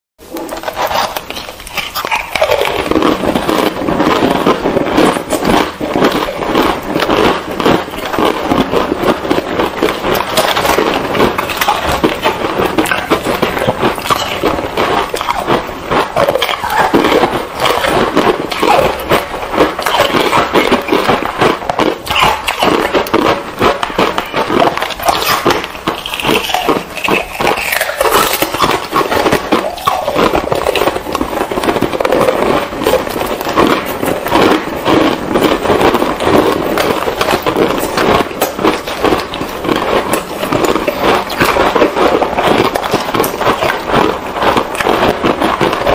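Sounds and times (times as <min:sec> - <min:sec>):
crunching and chewing ice: 0:00.2 - 0:45.9.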